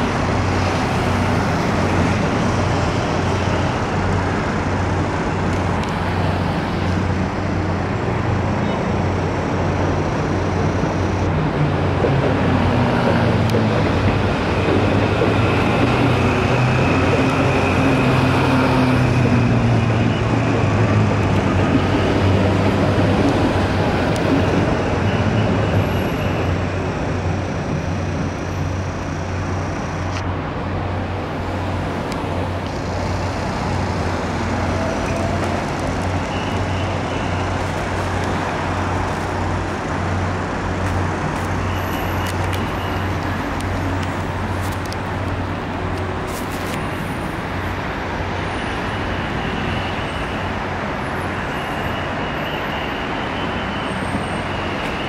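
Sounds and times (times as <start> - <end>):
road traffic hum: 0.0 - 55.0.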